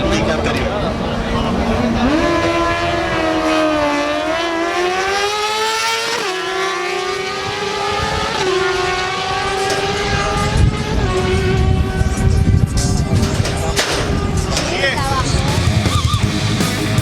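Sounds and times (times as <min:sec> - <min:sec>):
motorcycle engine at full throttle: 0:00.0 - 0:17.0.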